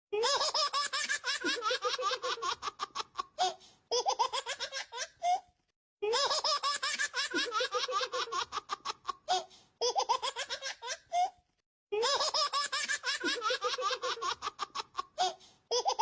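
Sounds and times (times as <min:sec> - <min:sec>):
baby giggling: 0:00.2 - 0:05.4, 0:06.1 - 0:11.4, 0:12.0 - 0:16.0.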